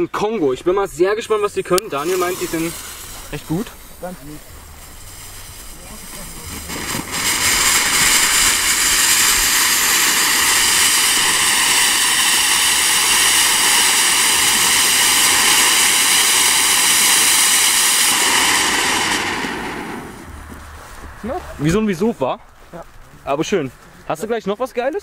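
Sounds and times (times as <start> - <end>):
firework fountain hissing: 0.7 - 21.8.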